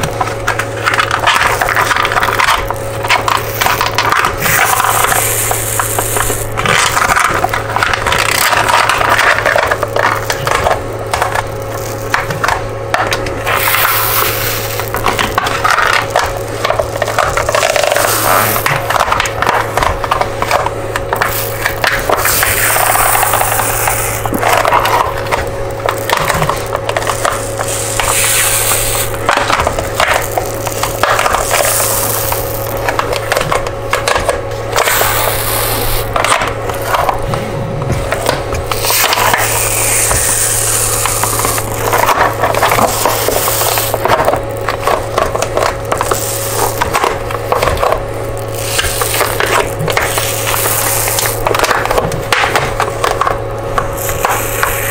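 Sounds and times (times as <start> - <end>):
plastic sheet crackling as peeled: 0.0 - 54.9
steady low hum: 0.0 - 54.9.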